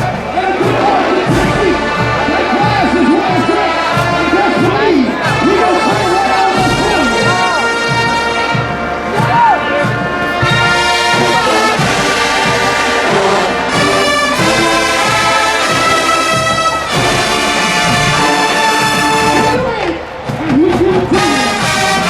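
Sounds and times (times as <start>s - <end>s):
brass section chords: 0.0s - 22.0s
drumline drum hits: 0.0s - 22.0s.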